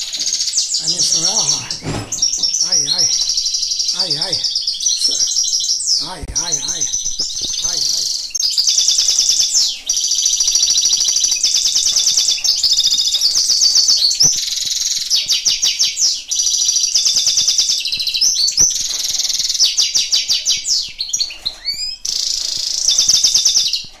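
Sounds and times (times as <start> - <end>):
goldfinch singing: 0.0 - 24.0.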